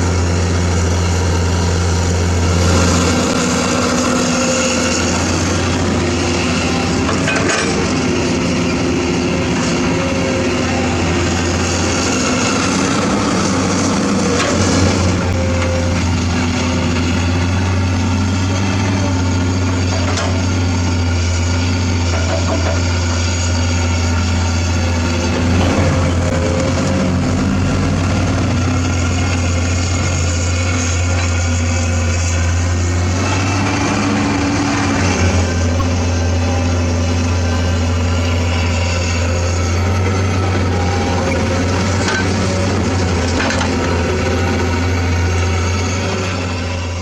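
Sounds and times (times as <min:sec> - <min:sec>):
heavy diesel engine droning: 0:00.0 - 0:47.0.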